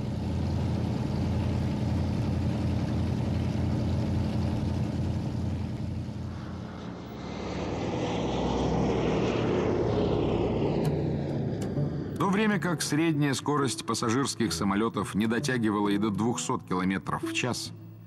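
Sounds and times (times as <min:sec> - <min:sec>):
propeller plane engines droning: 0:00.0 - 0:18.0.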